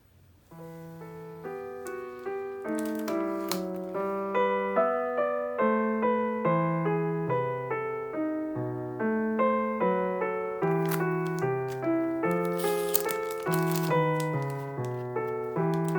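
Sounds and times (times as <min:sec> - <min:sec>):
slow sad piano minuet: 0:00.0 - 0:15.9.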